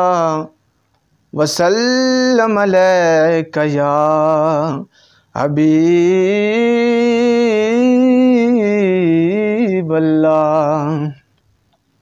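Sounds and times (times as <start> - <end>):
man singing unaccompanied: 0.0 - 0.6, 1.3 - 11.4.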